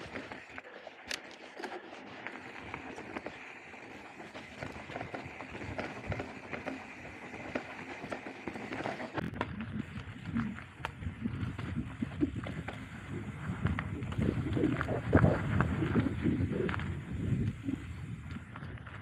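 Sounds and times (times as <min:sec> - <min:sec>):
bike clicks and rattles: 0:00.0 - 0:19.0
bike tyres crunching on gravel: 0:00.0 - 0:19.0.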